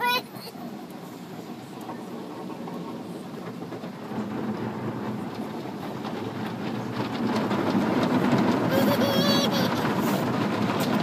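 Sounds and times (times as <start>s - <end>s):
car wash machinery rumble: 0.0s - 11.0s.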